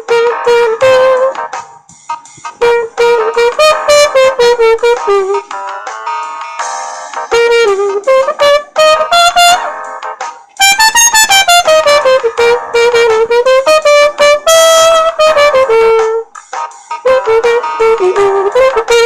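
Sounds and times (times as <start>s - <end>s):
muted trumpet melody: 0.0s - 16.3s, 16.9s - 19.0s.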